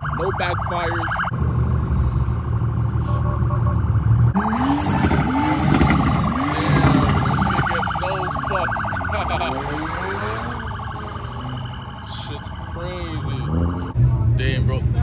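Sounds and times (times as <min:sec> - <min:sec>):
police sirens warbling: 0:00.0 - 0:01.5, 0:02.4 - 0:15.0.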